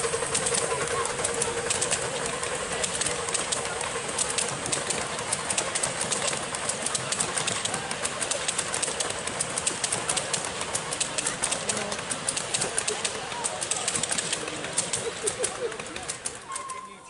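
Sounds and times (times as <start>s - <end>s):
miniature railway coaches rolling: 0.0s - 17.0s
wheels clicking over rail joints: 0.0s - 17.0s.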